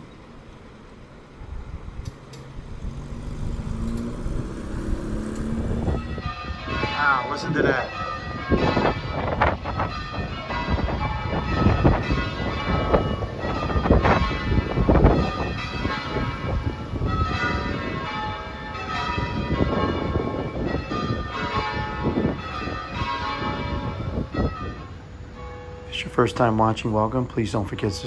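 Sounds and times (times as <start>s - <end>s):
wind buffeting microphone: 0.5s - 25.0s
church bells pealing: 4.5s - 28.0s.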